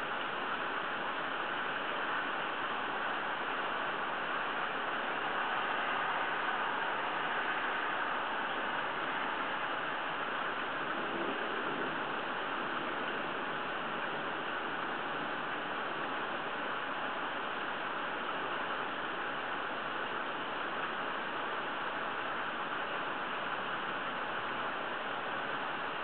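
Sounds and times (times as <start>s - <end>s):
rain: 0.0s - 26.0s
hurricane wind: 0.4s - 26.0s.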